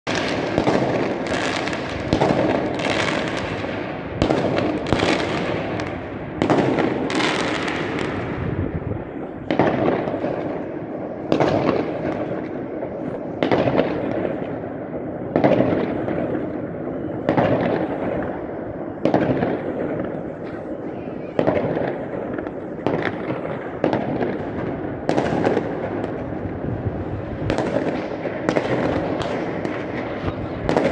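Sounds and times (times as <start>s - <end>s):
distant fireworks bangs: 0.1s - 30.9s
fireworks bangs echoing: 0.1s - 30.9s.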